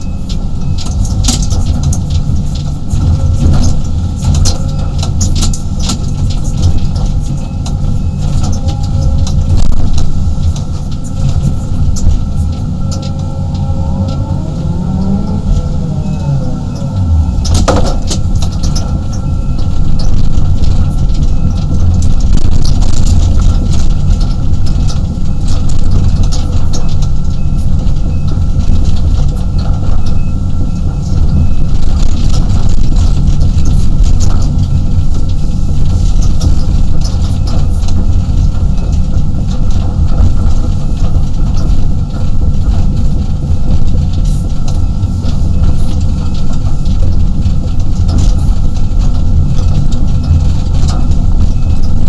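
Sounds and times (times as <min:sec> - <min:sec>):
clanks and rattles: 0:00.0 - 0:52.0
excavator engine and hydraulics: 0:00.0 - 0:52.0.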